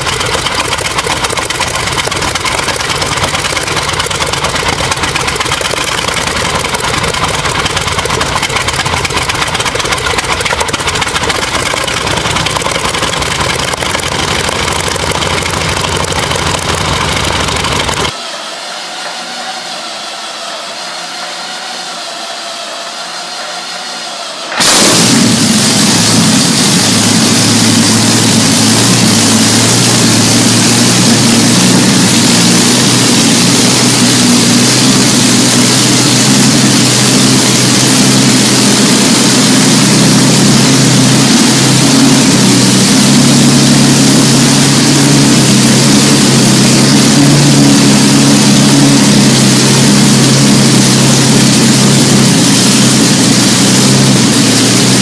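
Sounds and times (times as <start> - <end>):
aircraft engine running loud: 0.0 - 55.0.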